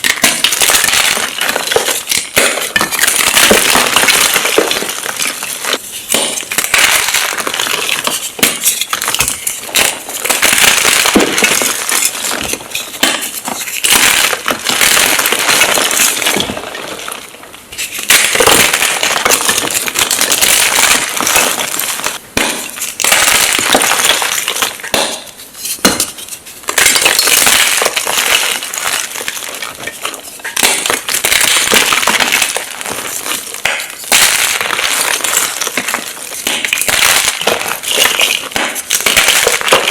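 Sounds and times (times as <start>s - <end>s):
chalk blocks crunching: 0.0s - 39.9s.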